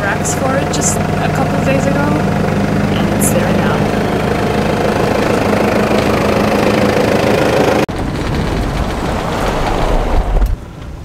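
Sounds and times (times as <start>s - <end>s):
engine idling: 0.0s - 9.2s
vehicle driving rumble: 0.0s - 11.0s.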